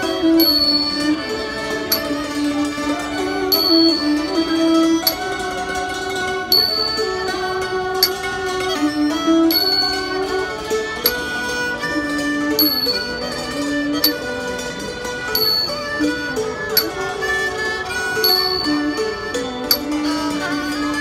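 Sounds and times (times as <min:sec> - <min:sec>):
bowed and plucked strings melody: 0:00.0 - 0:21.0
small hand cymbals: 0:00.0 - 0:21.0.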